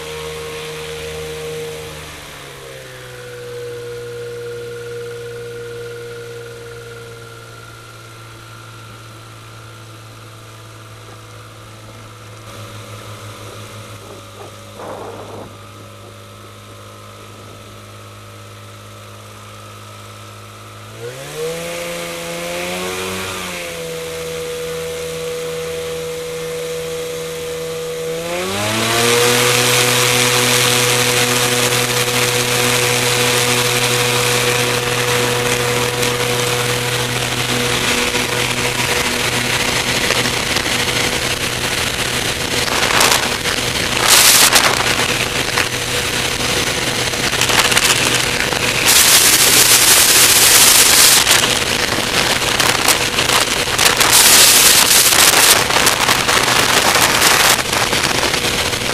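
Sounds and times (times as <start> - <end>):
light aircraft engine and propeller: 0.0 - 58.9.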